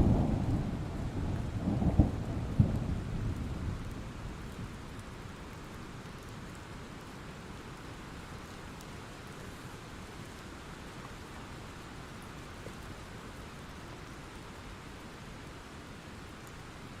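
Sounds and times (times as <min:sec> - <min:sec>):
faint raindrop ticks: 0:00.0 - 0:17.0
steady rain hiss: 0:00.0 - 0:17.0.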